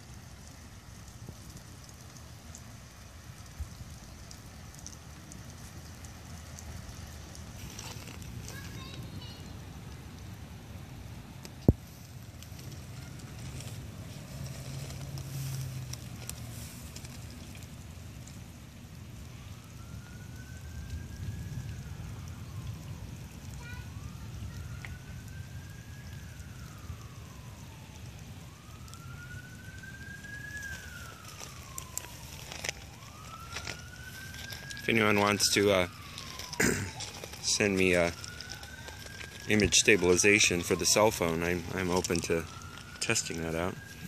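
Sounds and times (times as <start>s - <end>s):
distant siren wailing: 0.0s - 44.0s
light rain on wet foliage: 0.0s - 44.0s.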